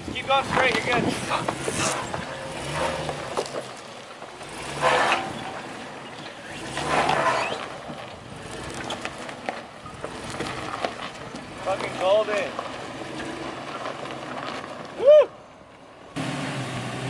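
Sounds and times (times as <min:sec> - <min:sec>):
truck engine revving: 0:00.3 - 0:15.2, 0:16.0 - 0:17.0.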